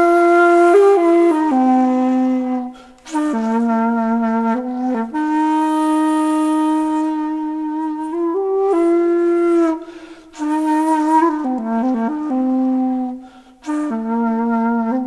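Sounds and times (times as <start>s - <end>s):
reed wind instrument long notes: 0.0s - 15.0s.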